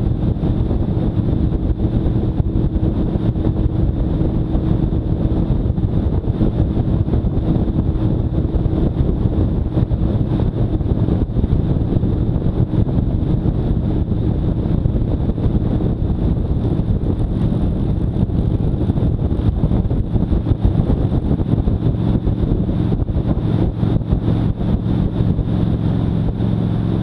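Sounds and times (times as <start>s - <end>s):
motorcycle engine cruising: 0.0s - 27.0s
wind on microphone: 0.0s - 27.0s.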